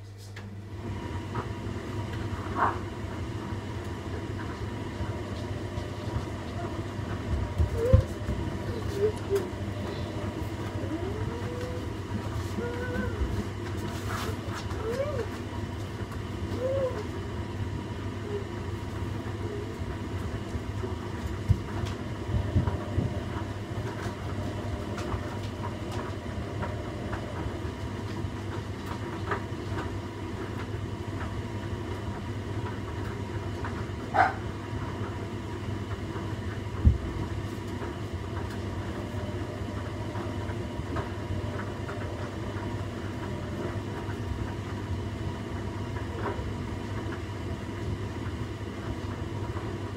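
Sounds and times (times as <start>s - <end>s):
washing machine rumbling: 0.0s - 49.9s.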